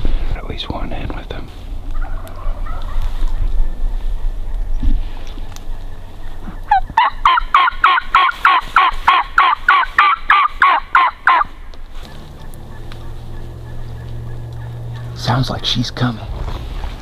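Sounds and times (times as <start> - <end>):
wild turkey hen yelping: 1.9 - 17.0.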